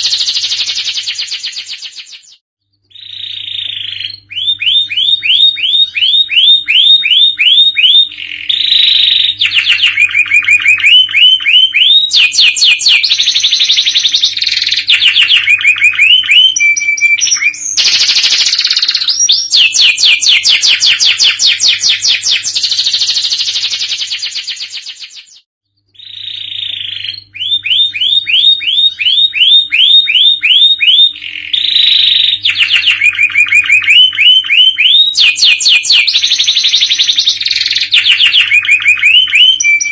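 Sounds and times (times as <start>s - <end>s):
canary singing trilled phrases: 0.0s - 39.9s.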